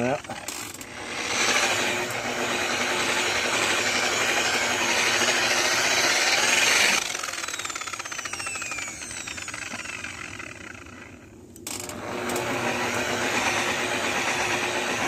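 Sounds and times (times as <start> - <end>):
rotary buffer whirring: 0.0 - 15.0.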